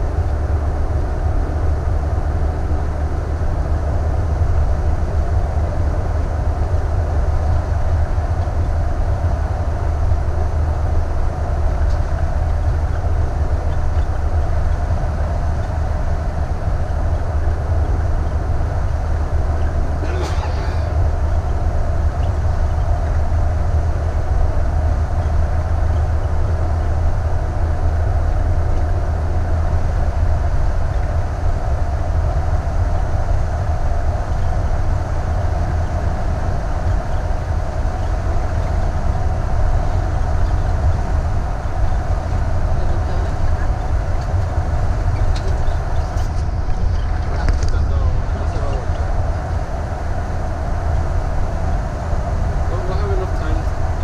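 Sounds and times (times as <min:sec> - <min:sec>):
motorhome engine and road noise: 0:00.0 - 0:54.0.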